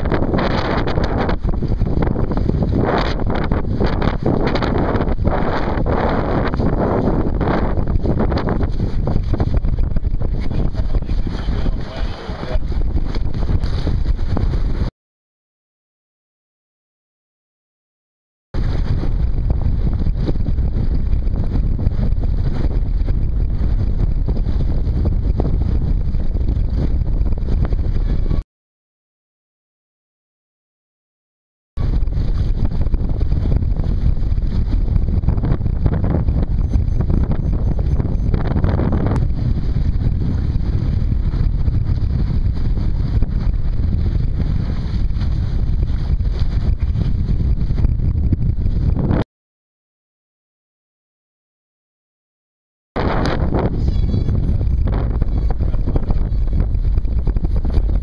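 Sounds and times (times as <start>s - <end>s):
wind buffeting microphone: 0.0s - 14.9s, 18.6s - 28.4s, 31.8s - 49.2s, 53.0s - 58.0s.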